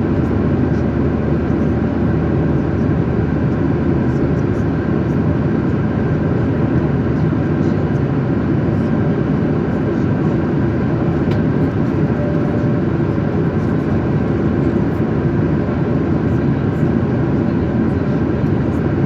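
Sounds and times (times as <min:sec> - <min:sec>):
airliner cabin engine noise: 0:00.0 - 0:19.0.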